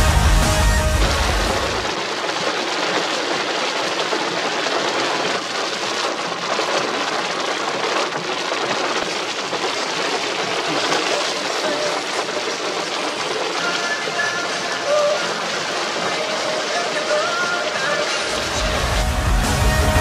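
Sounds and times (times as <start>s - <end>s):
rain on car windshield: 0.0s - 20.0s.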